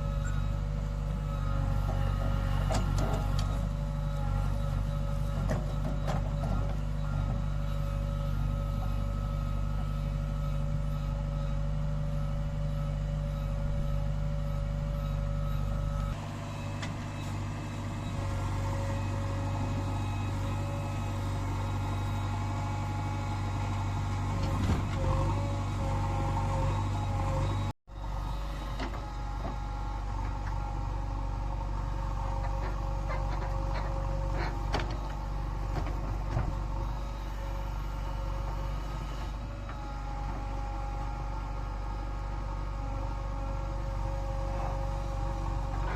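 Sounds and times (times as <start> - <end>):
constant whine: 0.0 - 45.9
heavy machinery diesel engine: 0.0 - 45.9.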